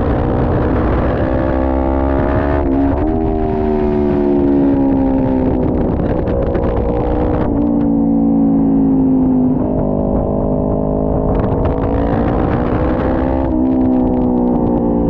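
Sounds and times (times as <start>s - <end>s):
motorcycle engine: 0.0s - 15.0s
wind rushing over microphone: 0.0s - 15.0s.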